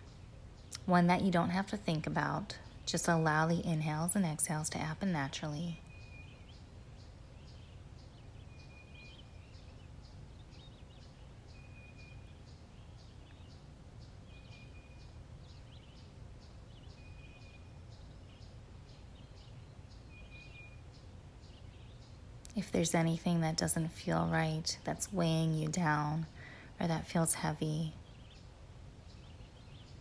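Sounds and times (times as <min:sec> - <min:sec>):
faint birds chirping: 0:00.0 - 0:30.0
low steady outdoor rumble: 0:00.0 - 0:30.0.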